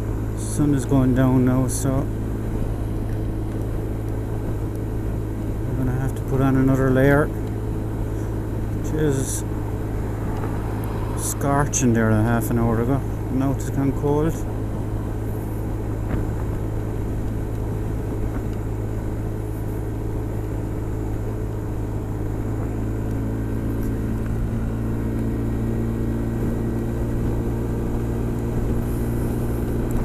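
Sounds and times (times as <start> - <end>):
scooter engine running: 0.0 - 30.0
steady hum tones: 0.0 - 30.0
wind and road noise: 0.0 - 30.0.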